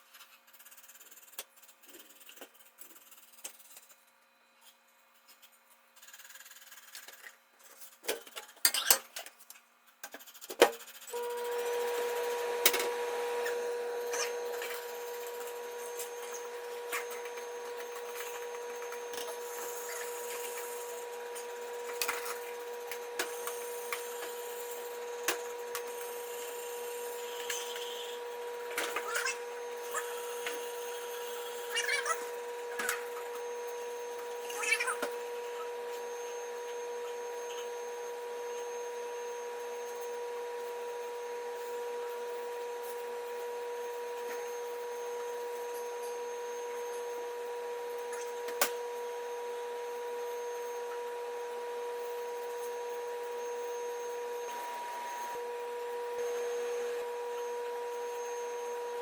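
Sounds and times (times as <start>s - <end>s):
small power tool motor humming: 11.0s - 59.0s.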